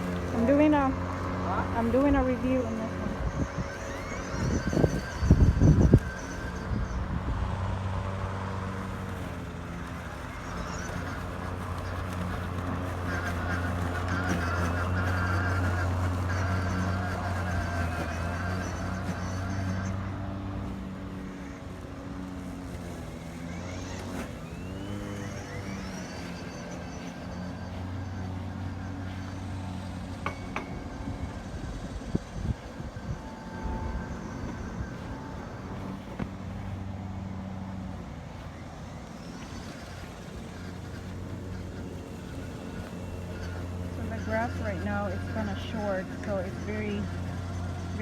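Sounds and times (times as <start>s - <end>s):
electric lawnmower humming: 0.0s - 48.0s.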